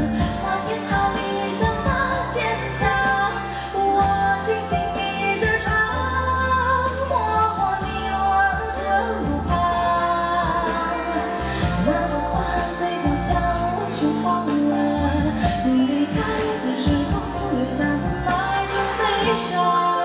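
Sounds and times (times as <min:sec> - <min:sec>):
drums and cymbals beat: 0:00.0 - 0:19.4
woman singing: 0:00.0 - 0:20.0.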